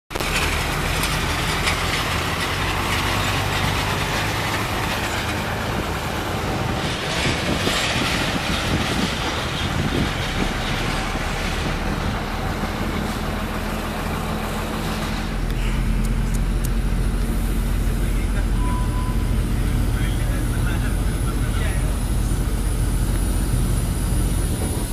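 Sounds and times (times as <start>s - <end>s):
bus engine humming: 0.1s - 24.9s
road and air noise: 0.1s - 24.9s.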